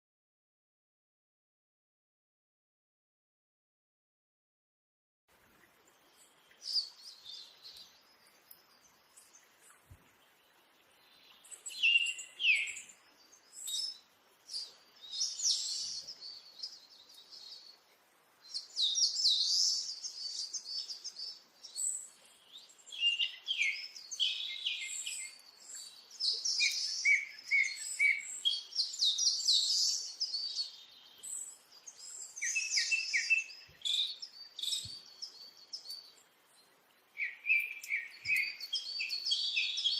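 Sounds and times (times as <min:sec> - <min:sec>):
small birds chirping: 0:05.4 - 0:39.9.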